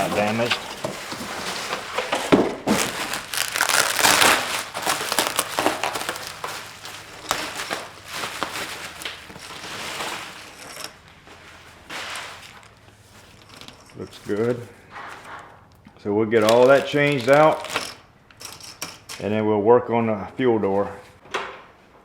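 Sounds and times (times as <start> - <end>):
plastic packaging crinkling: 0.0 - 15.4, 16.3 - 18.8.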